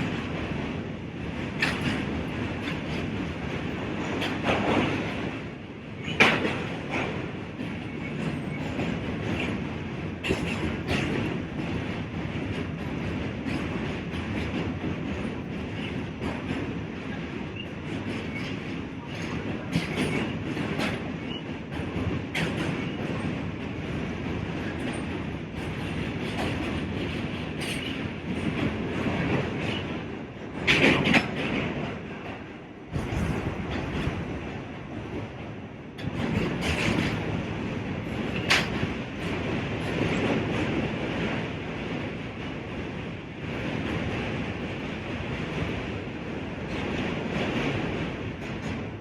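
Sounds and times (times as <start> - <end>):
subway train rumbling: 0.0 - 49.0
wheels clacking over rail joints: 1.3 - 41.4.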